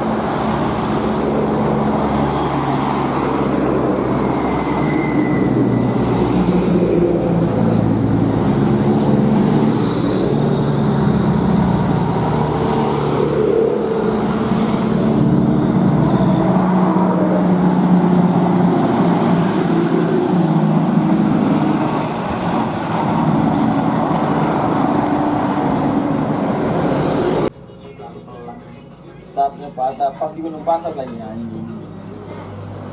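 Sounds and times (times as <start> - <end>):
diesel truck engine under load: 0.0 - 27.5.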